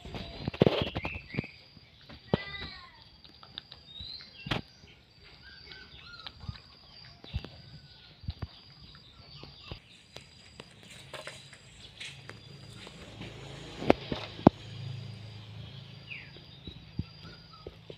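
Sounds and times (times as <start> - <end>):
faint bird chirps: 0.0 - 13.0, 14.5 - 17.9.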